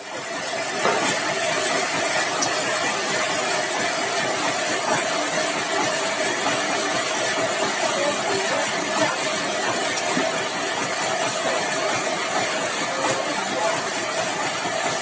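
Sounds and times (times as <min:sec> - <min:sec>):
sawmill machinery droning: 0:00.0 - 0:15.0.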